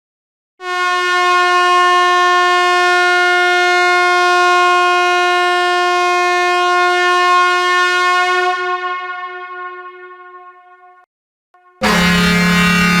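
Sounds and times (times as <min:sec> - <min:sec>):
truck air horn blast: 0:00.6 - 0:11.0, 0:11.6 - 0:13.0.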